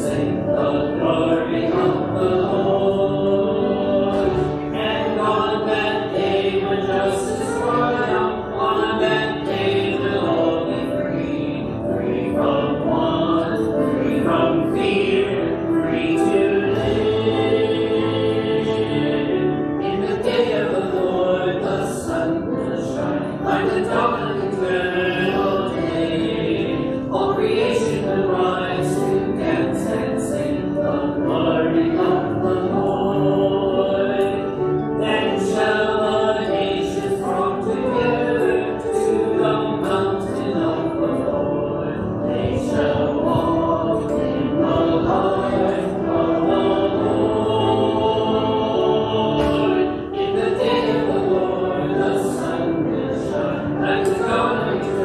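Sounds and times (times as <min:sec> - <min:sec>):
congregation and choir singing hymn: 0:00.0 - 0:55.0.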